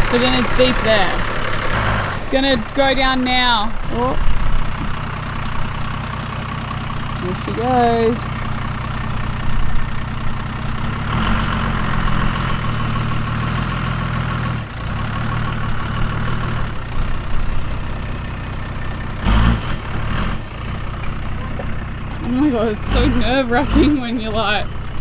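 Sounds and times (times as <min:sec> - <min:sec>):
vehicle engine under load: 0:00.0 - 0:25.0.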